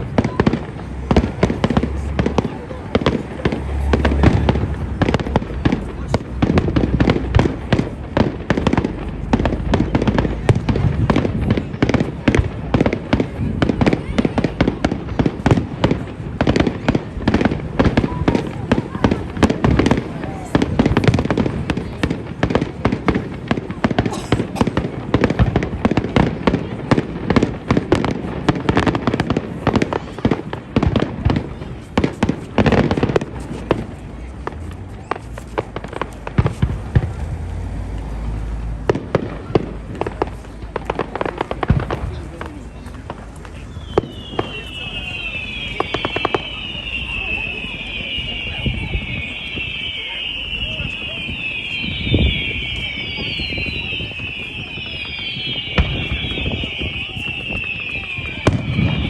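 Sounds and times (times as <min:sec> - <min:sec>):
deep fireworks booms: 0:00.0 - 0:59.0
fireworks bangs and crackling: 0:00.0 - 0:59.0.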